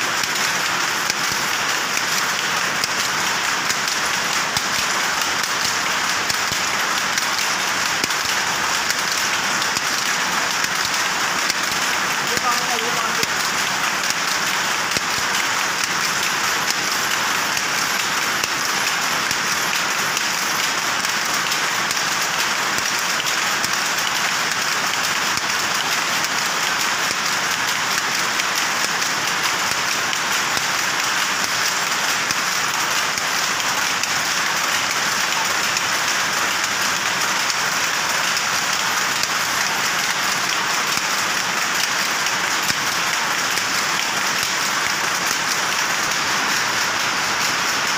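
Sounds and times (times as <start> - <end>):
powerloom mechanical clatter: 0.0 - 47.9.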